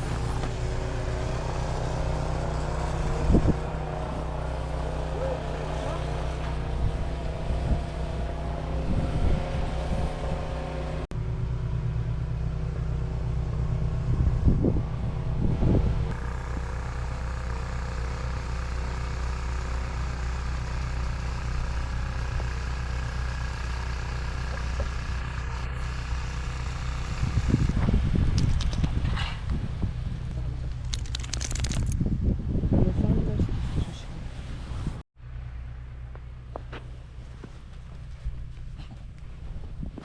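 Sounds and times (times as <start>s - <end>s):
low engine drone: 0.0s - 40.0s.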